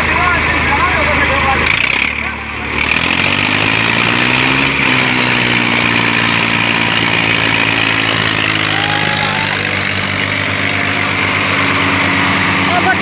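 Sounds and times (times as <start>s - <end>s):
tractor engines running hard: 0.0s - 13.0s.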